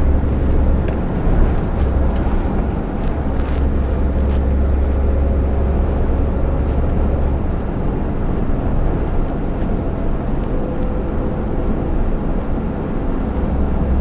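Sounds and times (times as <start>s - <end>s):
truck engine drone: 0.0s - 14.0s
tyre and road noise: 0.0s - 14.0s.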